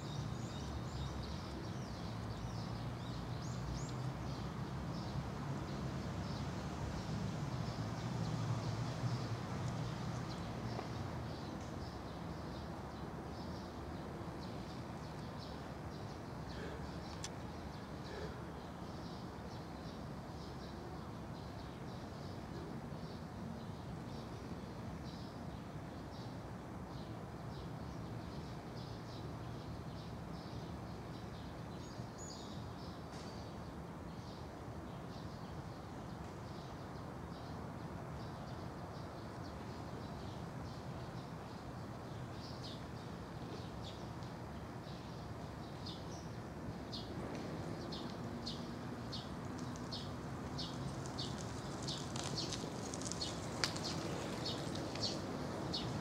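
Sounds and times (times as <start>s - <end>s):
small birds chirping: 0.0s - 25.4s, 35.0s - 56.0s
steady outdoor hum: 0.0s - 56.0s.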